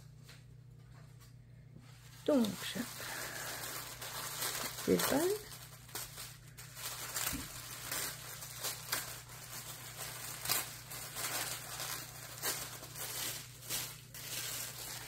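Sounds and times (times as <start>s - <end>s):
plastic wrapping crinkling: 1.9s - 15.0s.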